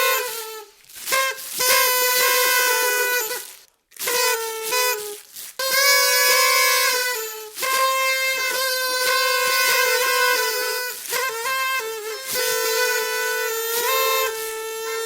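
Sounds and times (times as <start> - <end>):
party trumpet blasts: 0.0 - 15.0.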